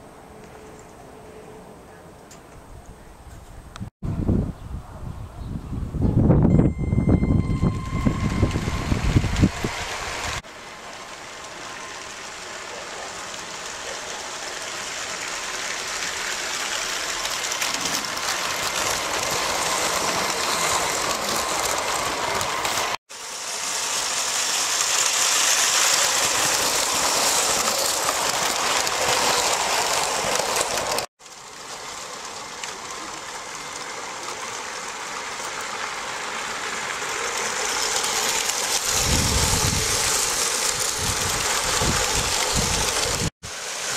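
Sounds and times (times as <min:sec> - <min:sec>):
toy trains rolling on plastic track: 0:07.3 - 0:43.9.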